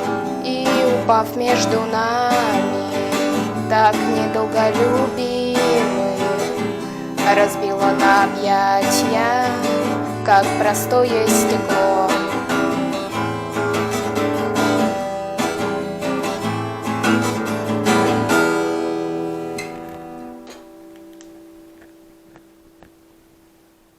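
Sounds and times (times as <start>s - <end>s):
acoustic guitar strumming: 0.0s - 23.9s.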